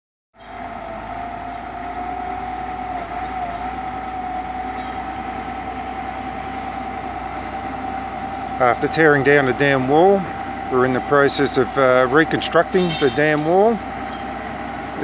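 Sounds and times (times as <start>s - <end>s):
bulldozer diesel rumble: 0.4s - 15.0s.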